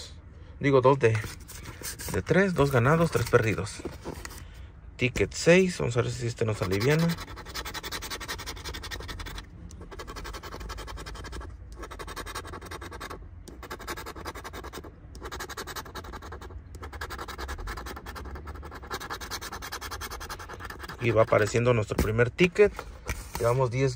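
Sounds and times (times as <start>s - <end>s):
scratching lottery ticket: 1.2s - 4.4s, 6.0s - 22.1s.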